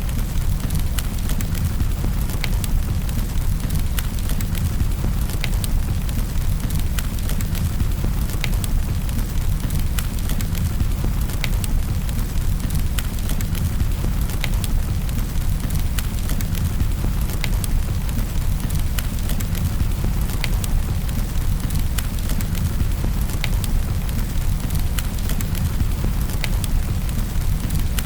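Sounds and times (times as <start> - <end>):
fire low rumble and hiss: 0.0 - 28.0
wood fire crackling and popping: 0.0 - 28.0.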